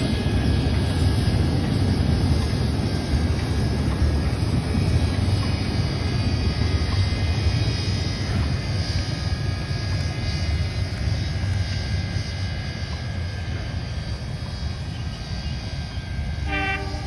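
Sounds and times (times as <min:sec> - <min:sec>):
train rumbling over bridge: 0:00.0 - 0:17.0.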